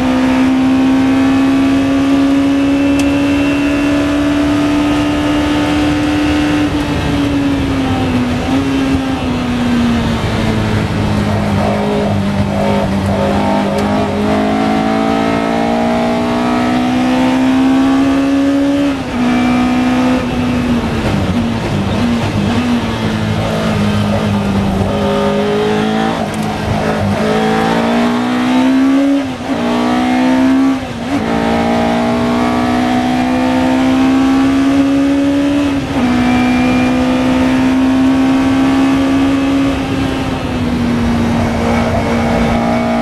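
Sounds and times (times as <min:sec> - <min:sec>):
racing car engine revving: 0:00.0 - 0:43.0.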